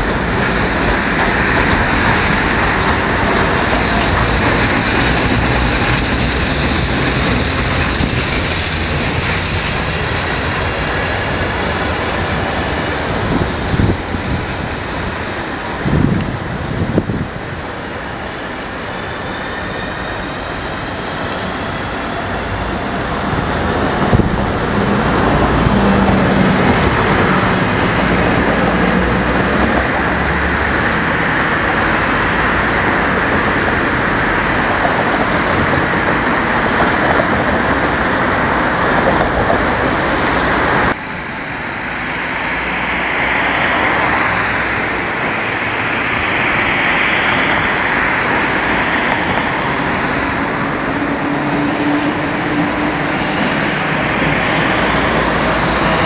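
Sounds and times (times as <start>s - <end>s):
city street traffic: 0.0s - 56.0s
trams approaching on track: 0.0s - 56.0s.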